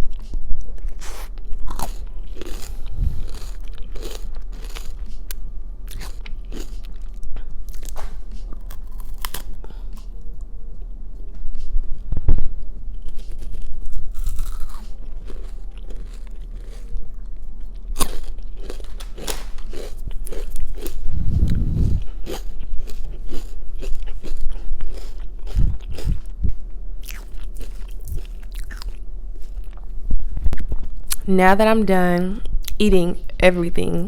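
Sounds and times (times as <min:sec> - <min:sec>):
crunchy chewing of food: 0:00.0 - 0:10.9, 0:11.5 - 0:31.2.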